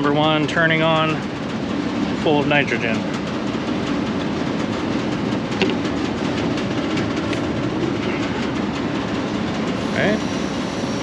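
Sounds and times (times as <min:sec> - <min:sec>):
hvac equipment droning: 0:00.0 - 0:11.0.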